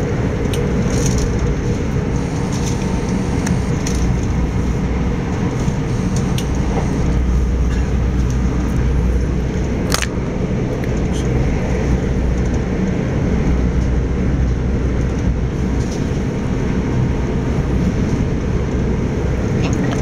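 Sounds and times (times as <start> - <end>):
train rumbling at speed: 0.0 - 20.0.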